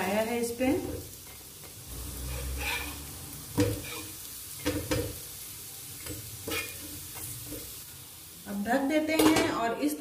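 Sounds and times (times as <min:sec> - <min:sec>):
patties sizzling in oil: 0:00.0 - 0:10.0.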